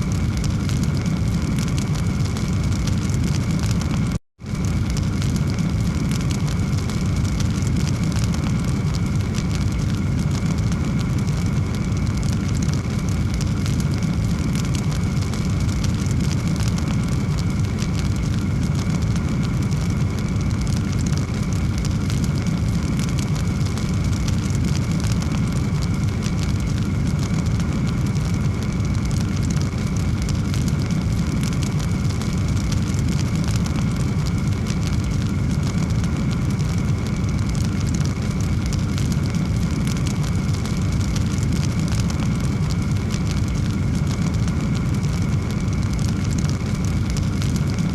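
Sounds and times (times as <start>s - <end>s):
fire crackling: 0.0s - 47.9s
log fire low roar: 0.0s - 47.9s.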